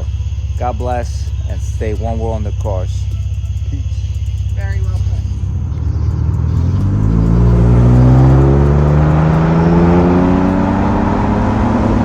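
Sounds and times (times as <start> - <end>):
truck engine accelerating: 0.0 - 12.0.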